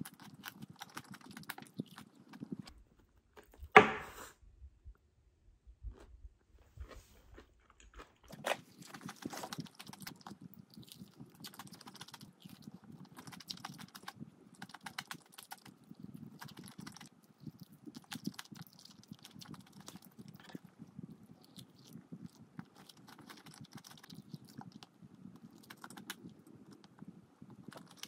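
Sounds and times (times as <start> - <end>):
crunching and chewing fried chicken: 0.0 - 3.6, 5.8 - 28.0.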